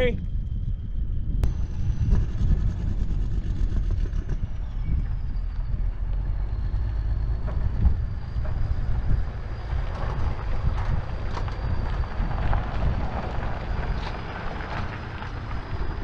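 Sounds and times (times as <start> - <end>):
truck rumbling on gravel road: 1.4 - 16.0.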